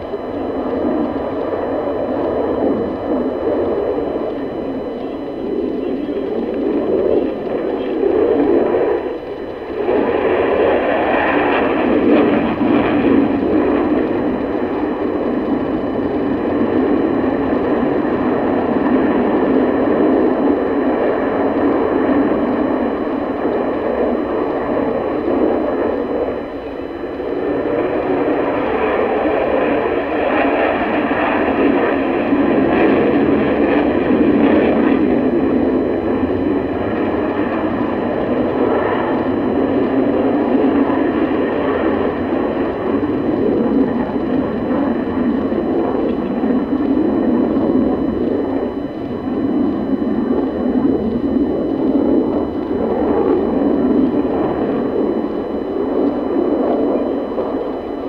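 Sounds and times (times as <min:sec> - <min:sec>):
fighter jet engines in flight: 0:00.0 - 0:58.0.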